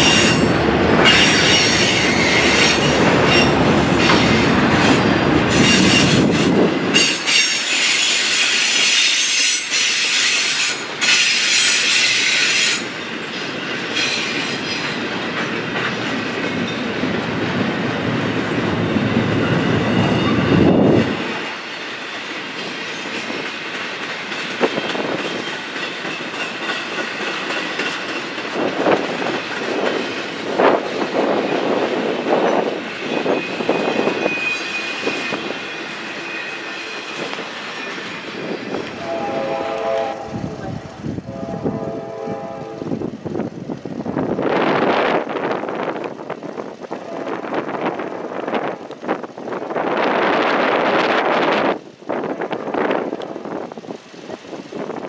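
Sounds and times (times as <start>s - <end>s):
wheels clicking over rail joints: 0.0s - 47.0s
train passing: 0.0s - 55.0s
wheels squealing on rails: 0.0s - 55.0s.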